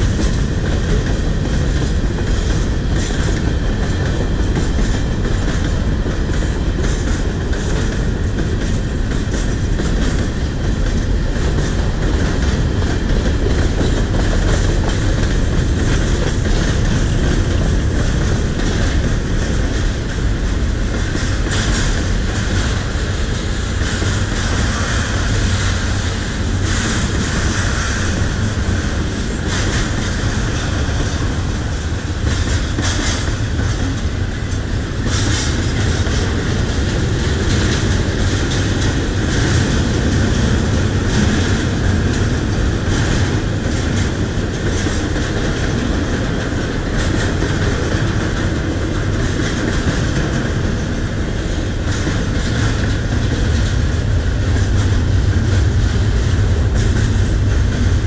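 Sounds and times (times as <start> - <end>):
steel wheels rumbling on rails: 0.0 - 58.0
wheels clicking over rail joints: 0.0 - 58.0.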